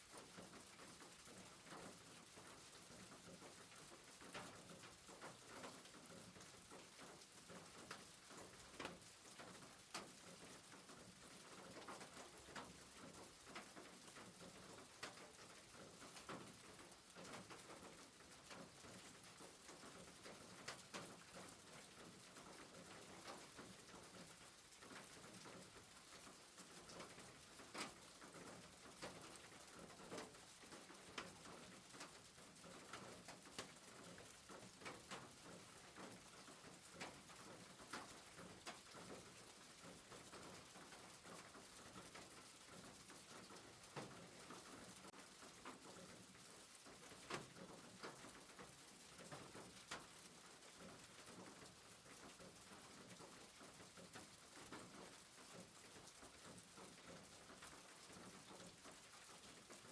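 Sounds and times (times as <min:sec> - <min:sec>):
rain on a rooftop: 0:00.0 - 0:59.9.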